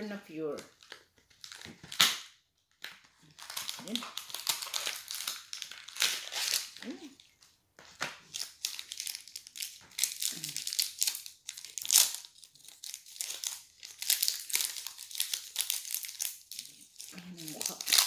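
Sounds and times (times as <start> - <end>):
wrapper crinkling and tearing: 0.5 - 18.0.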